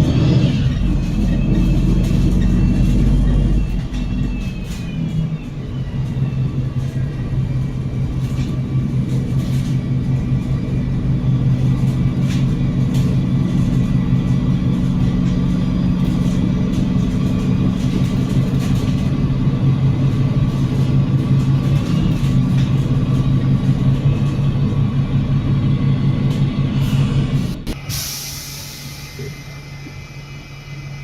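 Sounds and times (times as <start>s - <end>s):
bus diesel engine humming: 0.0s - 31.0s.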